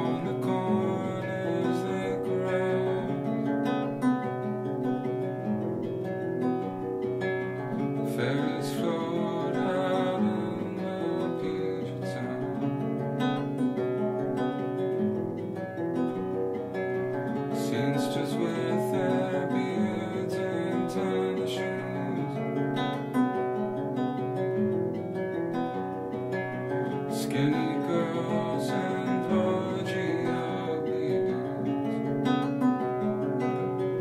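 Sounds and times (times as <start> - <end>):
acoustic guitar plucking: 0.0 - 34.0.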